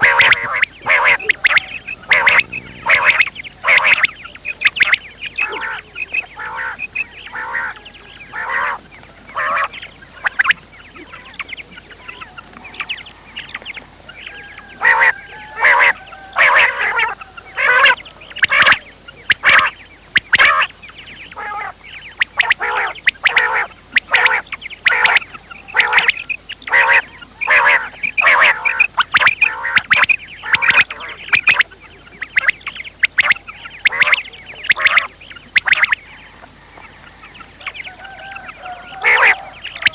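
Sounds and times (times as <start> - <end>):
ducks calling: 0.0 - 39.9.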